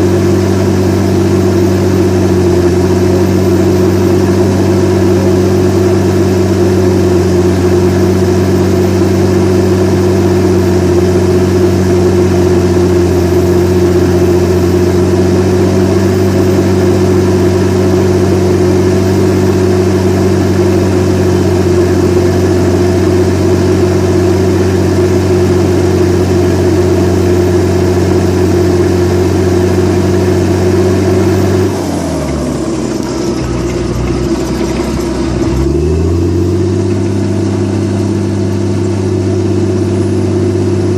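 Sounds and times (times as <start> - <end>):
dozer diesel engine running: 0.0 - 40.9.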